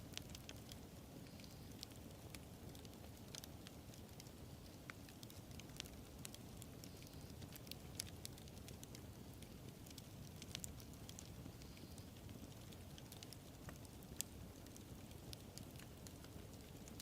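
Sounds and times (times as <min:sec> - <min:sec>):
burning wood crackling and popping: 0:00.0 - 0:17.0.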